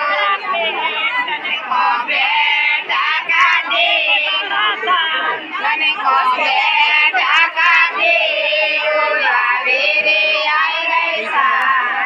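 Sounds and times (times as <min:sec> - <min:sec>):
women singing long bending notes: 0:00.0 - 0:12.0.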